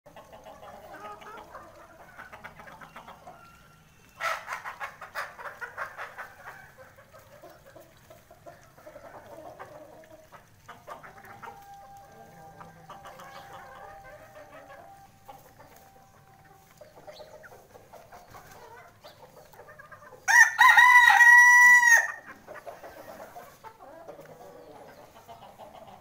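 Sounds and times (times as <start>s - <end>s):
chickens clucking: 0.1s - 26.0s.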